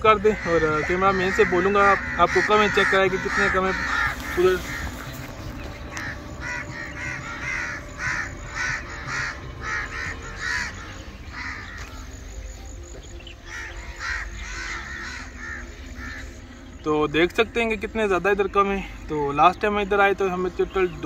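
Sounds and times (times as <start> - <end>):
crows cawing: 0.0 - 16.9.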